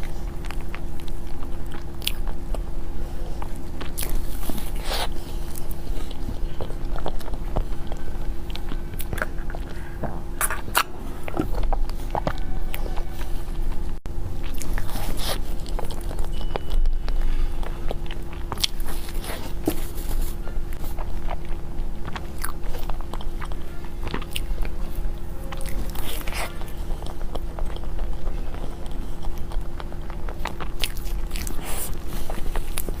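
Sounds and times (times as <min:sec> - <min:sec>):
biting and chewing: 0:00.0 - 0:33.0.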